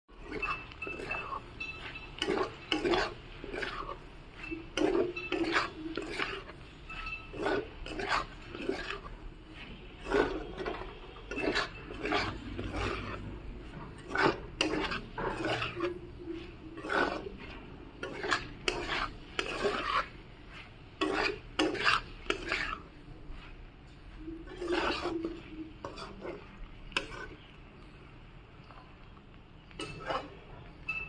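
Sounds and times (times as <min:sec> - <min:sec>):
metal spatula scraping onions: 0:00.1 - 0:27.5, 0:29.6 - 0:30.6.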